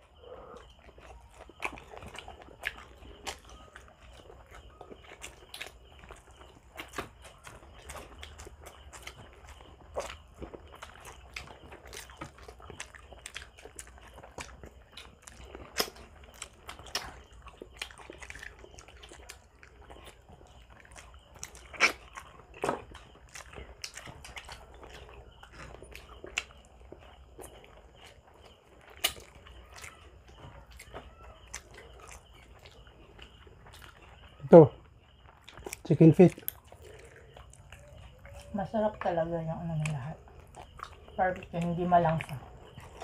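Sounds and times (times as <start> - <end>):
chewing with wet mouth clicks: 0.0 - 43.0.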